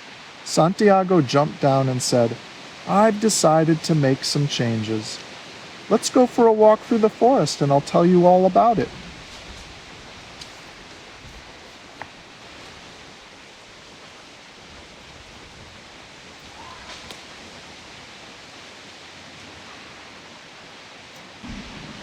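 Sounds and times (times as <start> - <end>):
leaves rustling: 0.0 - 22.0
wind through trees: 0.0 - 22.0.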